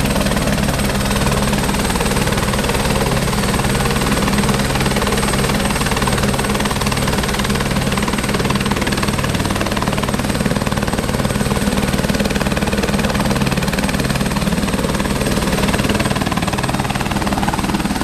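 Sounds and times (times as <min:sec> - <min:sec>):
helicopter rotor beating: 0:00.0 - 0:18.0
helicopter turbine whine: 0:00.0 - 0:18.0.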